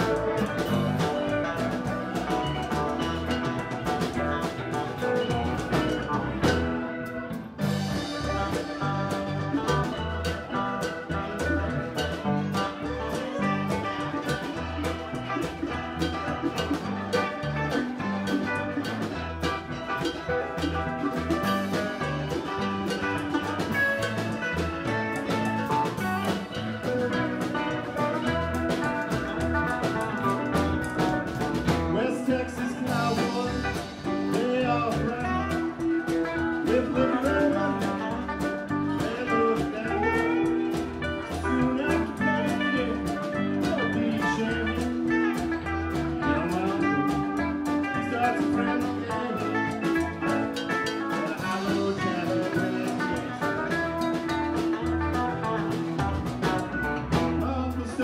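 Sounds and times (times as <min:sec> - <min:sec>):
guitar line: 0:00.0 - 0:58.0
live band playing: 0:00.0 - 0:58.0.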